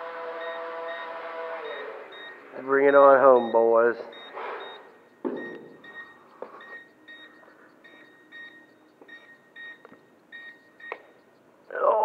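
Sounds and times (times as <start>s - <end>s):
short high warning beeps: 0.3s - 11.8s.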